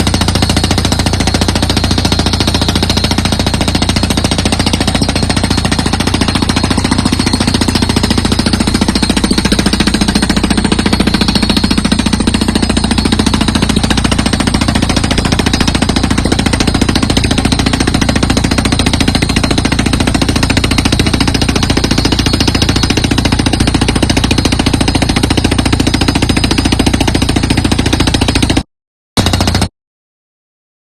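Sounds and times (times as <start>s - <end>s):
piling drill rig rattling: 0.0s - 28.6s, 29.2s - 29.7s.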